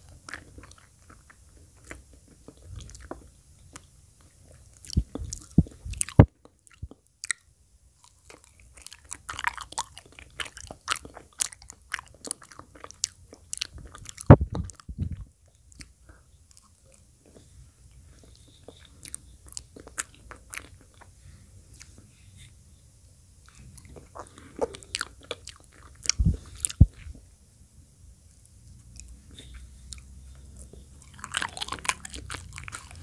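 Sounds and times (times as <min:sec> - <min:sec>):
wet chewing with mouth clicks: 0:00.0 - 0:22.6, 0:23.4 - 0:27.3, 0:28.2 - 0:33.0.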